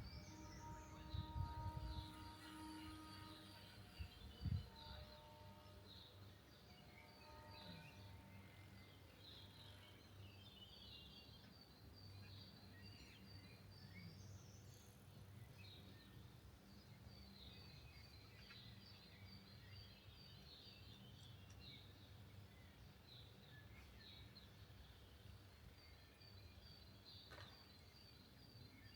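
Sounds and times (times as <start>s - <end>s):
faint birds chirping: 0.0s - 28.9s.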